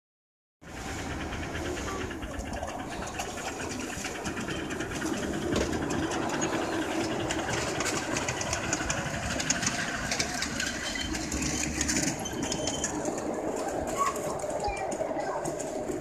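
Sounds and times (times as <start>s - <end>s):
miniature steam locomotive clatter: 0.6s - 16.0s.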